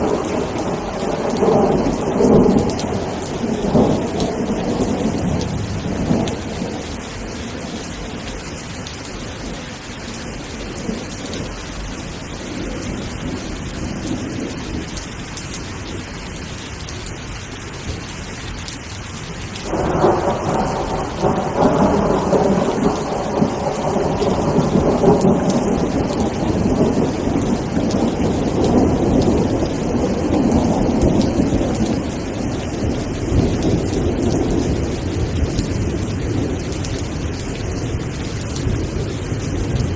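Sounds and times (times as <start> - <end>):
thunder rumbling: 0.0 - 15.0, 19.6 - 39.9
steady rain: 0.0 - 39.9.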